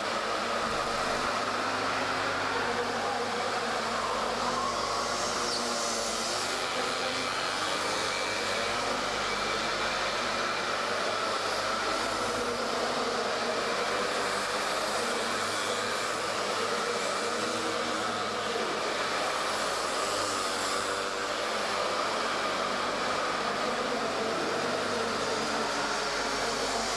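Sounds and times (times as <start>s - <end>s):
small two-stroke engines buzzing: 0.0s - 26.9s.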